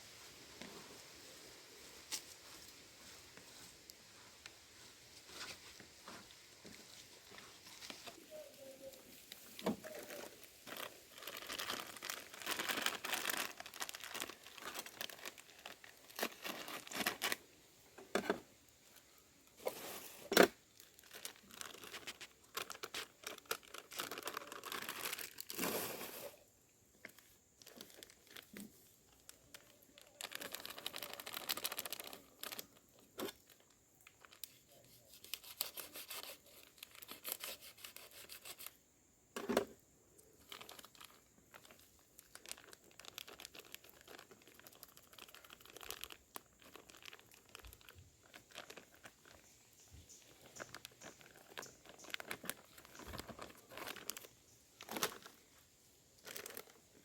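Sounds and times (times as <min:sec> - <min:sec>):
crinkling and rustling: 0:02.0 - 0:38.8, 0:39.4 - 0:57.0.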